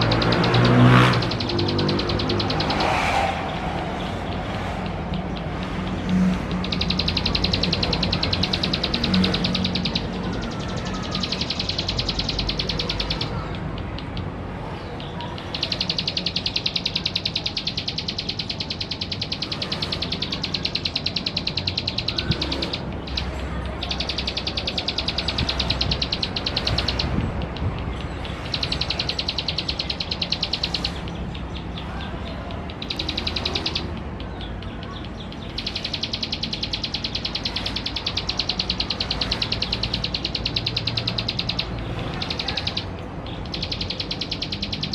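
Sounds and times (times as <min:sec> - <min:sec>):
bird singing buzzy trills: 0:00.0 - 0:44.9.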